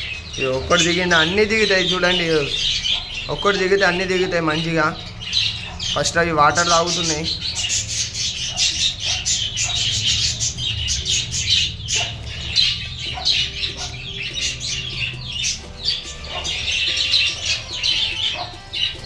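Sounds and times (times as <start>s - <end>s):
budgerigars chattering: 0.0s - 19.0s.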